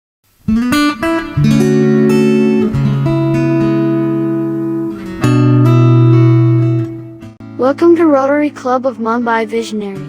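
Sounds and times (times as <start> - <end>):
acoustic guitar music: 0.3 - 10.0.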